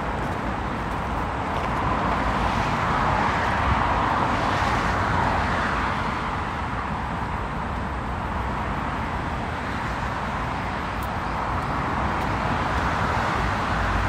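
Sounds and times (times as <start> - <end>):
car passing by: 0.0 - 7.1, 8.5 - 14.0
traffic hum: 0.0 - 14.0.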